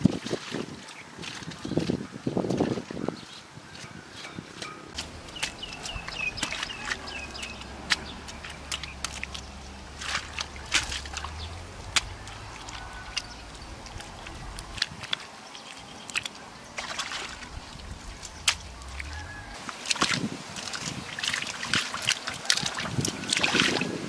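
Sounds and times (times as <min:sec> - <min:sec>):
hands slapping wet mud: 0:04.6 - 0:24.0.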